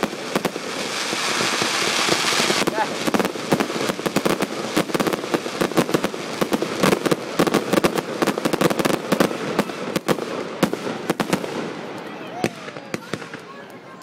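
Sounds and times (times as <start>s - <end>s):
steady hiss: 0.0s - 11.9s
fireworks bangs and pops: 0.0s - 14.0s.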